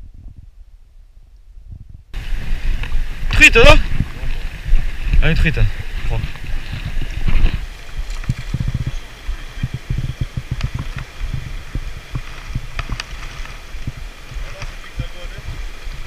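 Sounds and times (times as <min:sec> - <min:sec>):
wind on microphone: 0:00.0 - 0:16.0
river water rushing over riffle: 0:02.2 - 0:16.0.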